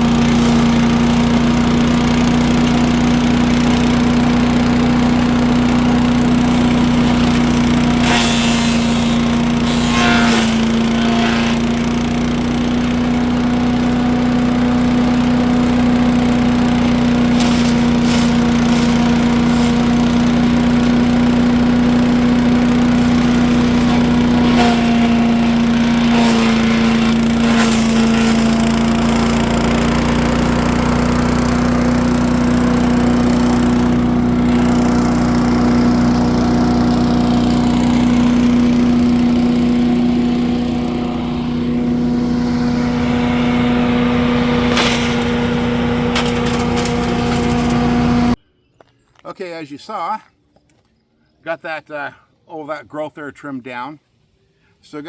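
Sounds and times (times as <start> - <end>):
motor running steadily: 0.0 - 48.4.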